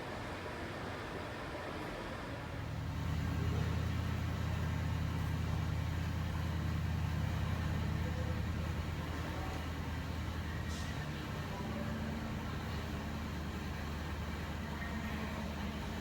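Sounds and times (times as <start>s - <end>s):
low engine drone: 2.4s - 16.0s.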